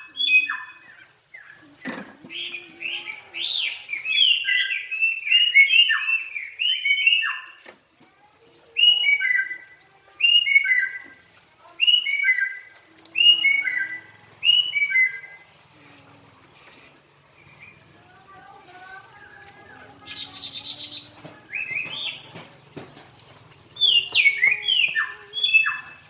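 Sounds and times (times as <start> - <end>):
songbird singing: 0.0 - 7.7, 8.7 - 15.5, 17.2 - 26.0.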